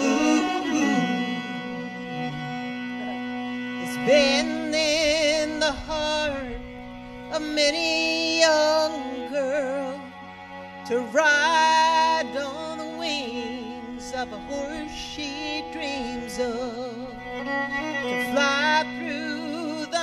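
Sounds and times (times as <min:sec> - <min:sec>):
instrumental accompaniment: 0:00.0 - 0:20.0.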